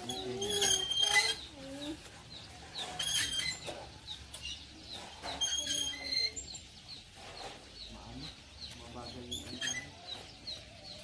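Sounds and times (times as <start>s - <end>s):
chickens clucking: 0.0s - 11.0s
small birds chirping: 0.0s - 11.0s.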